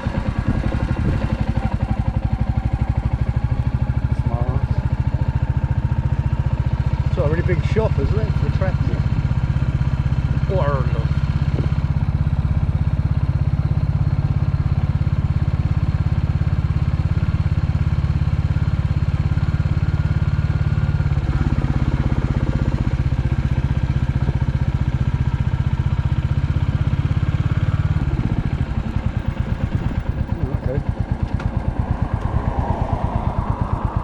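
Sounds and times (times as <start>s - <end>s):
motorcycle engine thumping: 0.0s - 34.0s.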